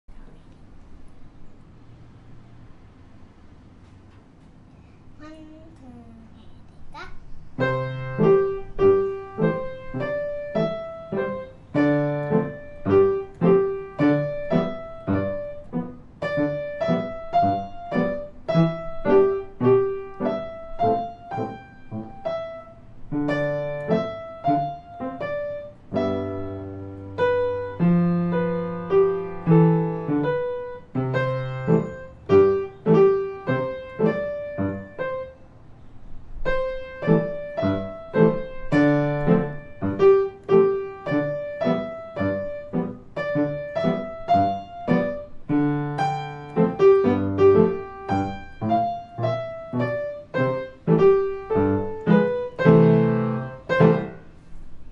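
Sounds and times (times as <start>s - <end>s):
piano duet: 6.9s - 54.9s.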